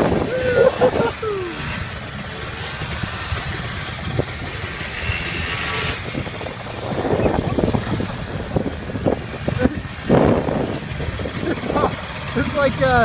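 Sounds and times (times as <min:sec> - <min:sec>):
quad engine idling: 0:00.0 - 0:13.0
quad puttering at low speed: 0:00.0 - 0:13.0.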